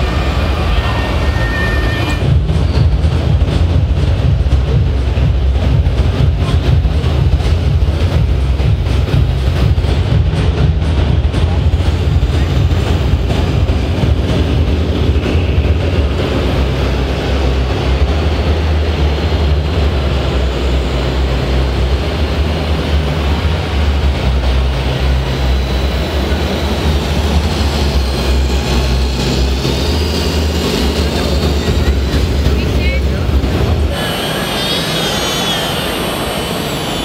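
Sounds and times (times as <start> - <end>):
hall background din: 0.0 - 34.3
diesel engine rumble: 0.0 - 37.0.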